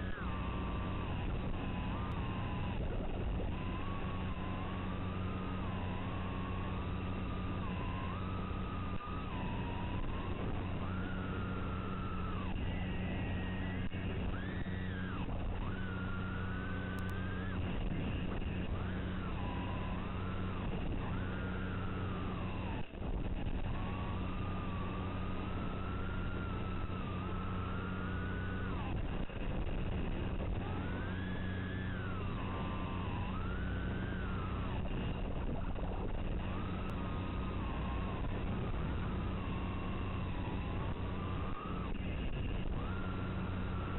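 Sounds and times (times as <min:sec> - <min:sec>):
constant low hum: 0:00.0 - 0:43.9
quadcopter motors whining: 0:00.0 - 0:43.9.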